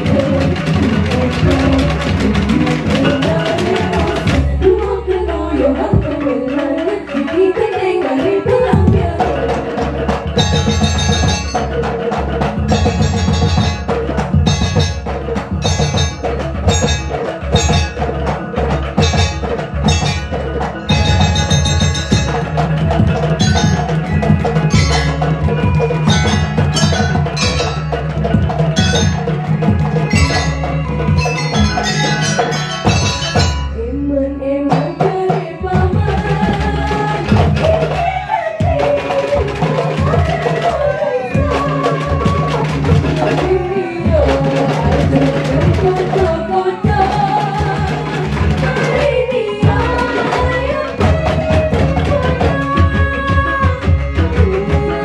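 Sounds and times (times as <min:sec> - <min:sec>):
hand drums beating: 0:00.0 - 0:34.0, 0:34.6 - 0:55.0
ringing bronze metallophones: 0:09.0 - 0:55.0.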